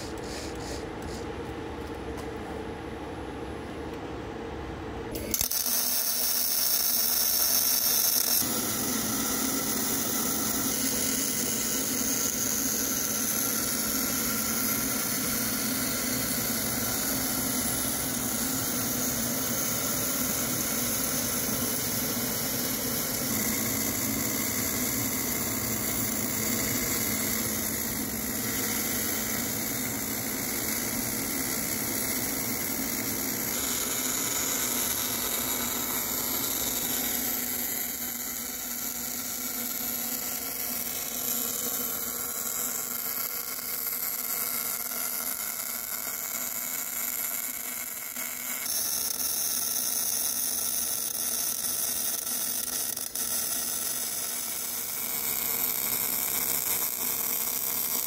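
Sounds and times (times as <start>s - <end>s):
mechanical whine with hiss: 0.0s - 1.5s, 5.1s - 58.0s.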